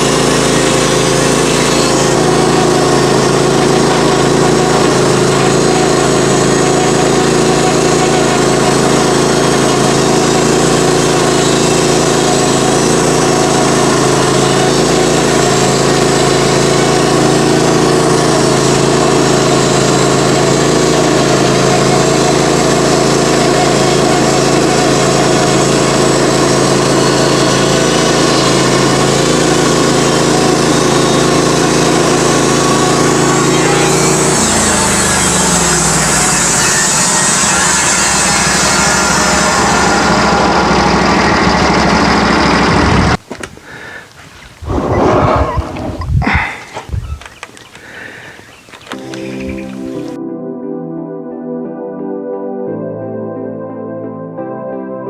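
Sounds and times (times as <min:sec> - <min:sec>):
gas engine running steadily: 0:00.0 - 0:36.7, 0:37.3 - 0:50.2.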